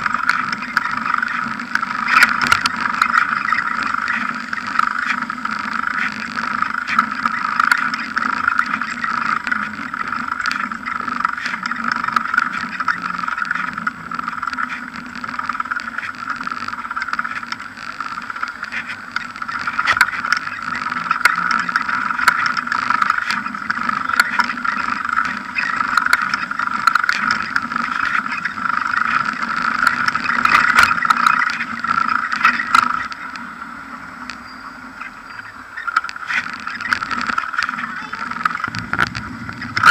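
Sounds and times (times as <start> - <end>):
bike knocks and rattles: 0.0 - 33.3, 35.4 - 39.9
bike tyre rolling over paving: 0.0 - 39.9.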